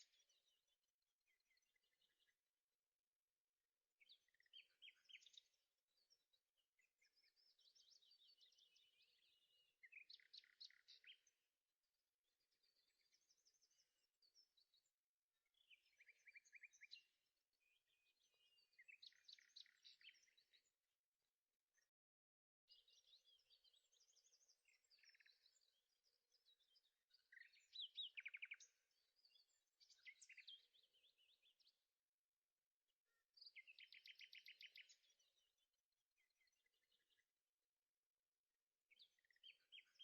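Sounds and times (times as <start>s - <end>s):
songbird chirping trills: 0.0s - 40.0s.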